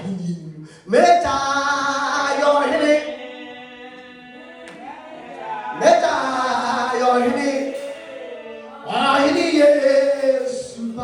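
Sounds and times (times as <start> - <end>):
man singing worship chorus: 0.0 - 11.0.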